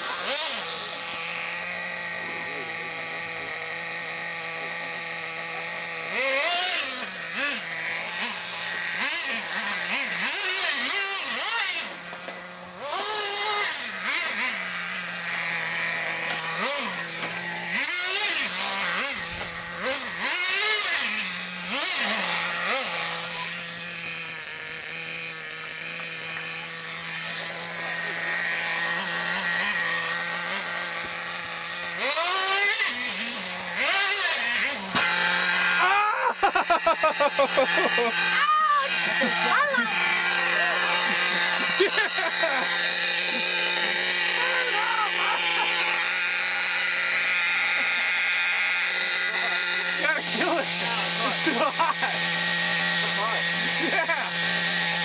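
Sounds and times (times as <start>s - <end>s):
high-pitched engine drone: 0.0s - 55.0s
small engines revving: 0.0s - 55.0s.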